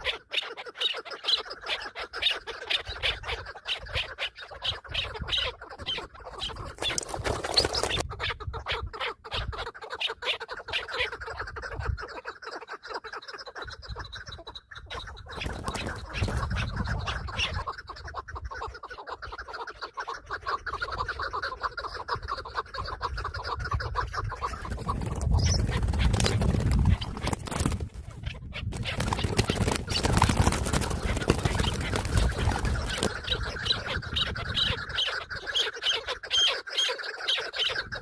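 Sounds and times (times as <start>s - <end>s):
partridge clucking call: 0.0s - 38.0s.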